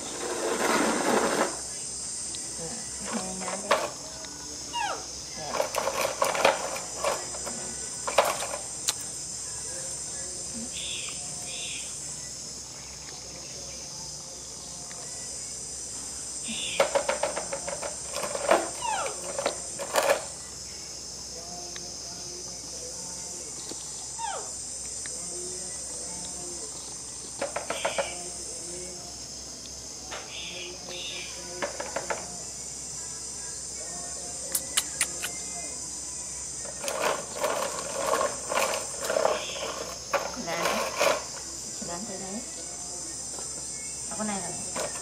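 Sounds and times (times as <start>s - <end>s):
insects chorus: 0.0s - 45.0s.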